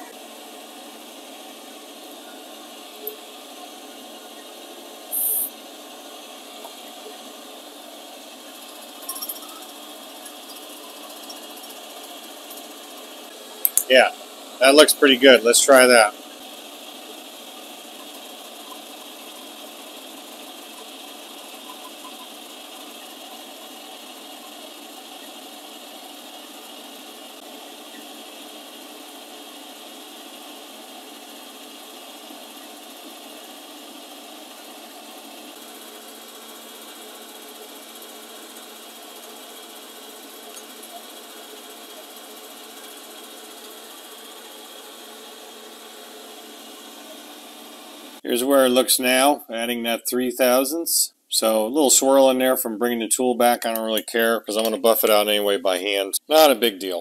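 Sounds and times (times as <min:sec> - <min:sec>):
mill-drill spindle boring steel: 0:00.0 - 0:49.2.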